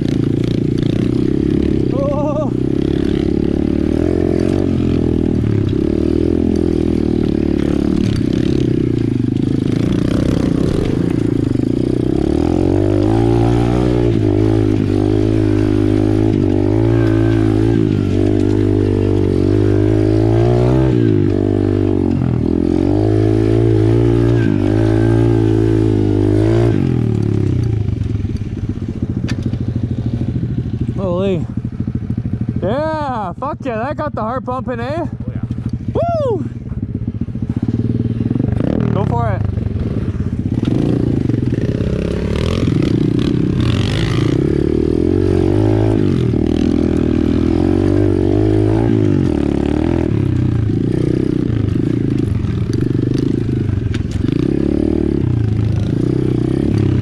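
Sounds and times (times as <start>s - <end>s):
pit bike engine revving: 0.0s - 36.0s, 36.7s - 57.0s.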